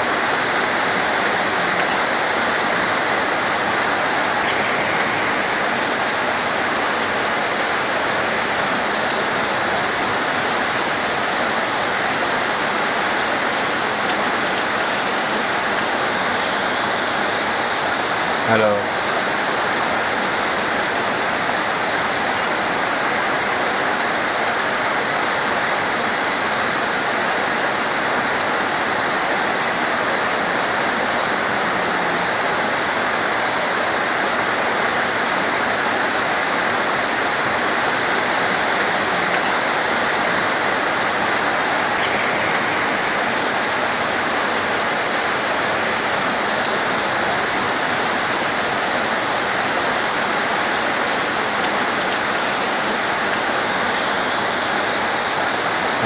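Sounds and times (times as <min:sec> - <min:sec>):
heavy rain hissing: 0:00.0 - 0:56.0.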